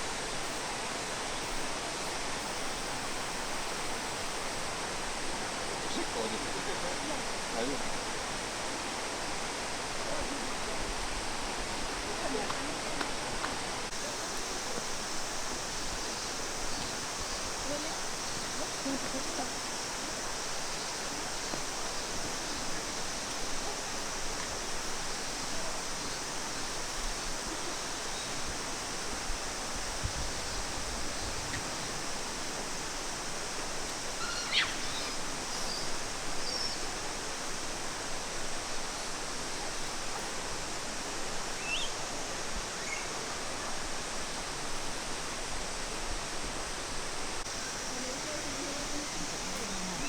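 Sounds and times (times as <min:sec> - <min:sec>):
flowing water rushing: 0:00.0 - 0:50.0.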